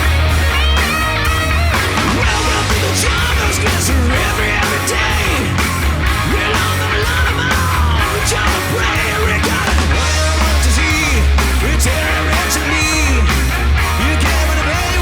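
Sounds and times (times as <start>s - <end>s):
distorted electric guitar: 0.0s - 15.0s
hard rock band playing: 0.0s - 15.0s.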